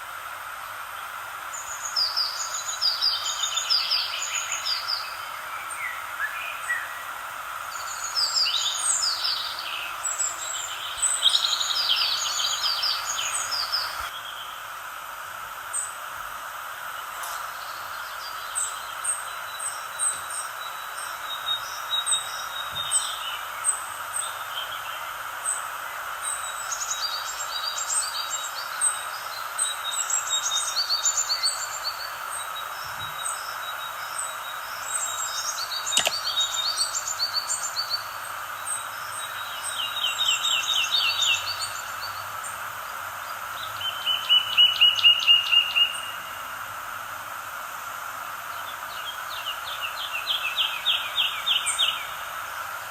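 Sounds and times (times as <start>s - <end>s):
steady background hiss: 0.0s - 52.9s
birds chirping and trilling: 1.5s - 14.6s, 17.4s - 46.4s, 48.5s - 52.3s.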